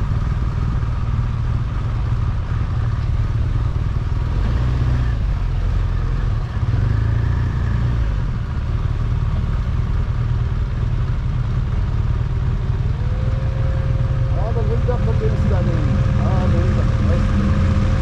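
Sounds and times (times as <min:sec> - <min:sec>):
car engine running: 0:00.0 - 0:18.0
road rumble: 0:00.0 - 0:18.0.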